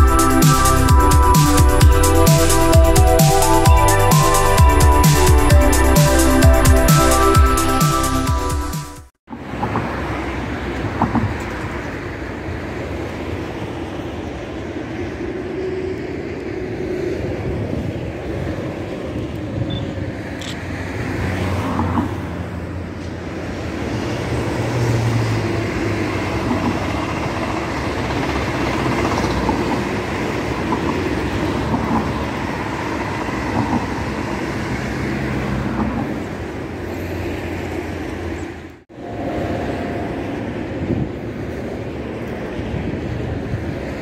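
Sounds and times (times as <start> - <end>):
high-speed train passing: 0.0 - 44.0.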